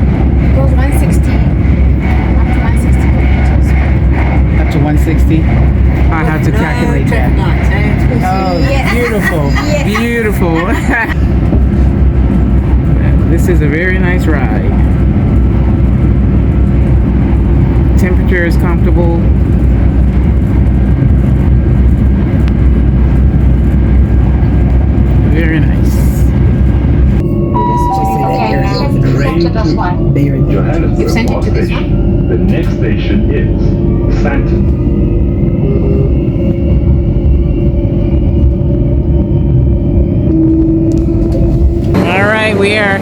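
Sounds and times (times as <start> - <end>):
train rumbling inside carriage: 0.0 - 43.0.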